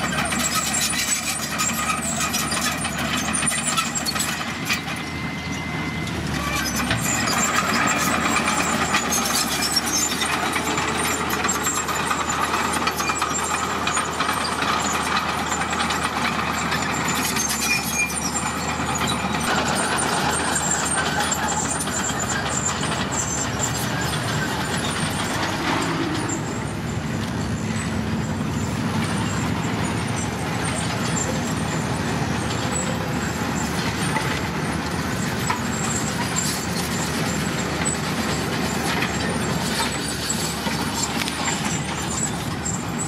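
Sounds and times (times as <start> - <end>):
bulldozer diesel engine: 0.0 - 43.0
dump trucks running: 0.0 - 43.0.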